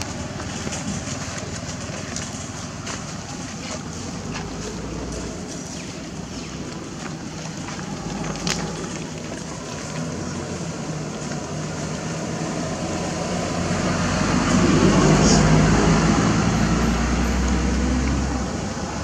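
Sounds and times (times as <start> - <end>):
motor vehicle humming: 0.0 - 19.0.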